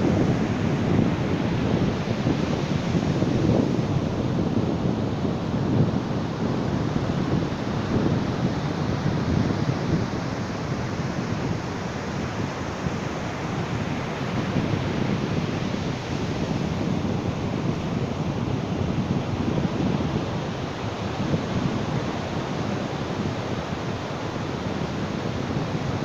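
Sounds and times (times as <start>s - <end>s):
ocean surf washing onto beach: 0.0s - 26.0s.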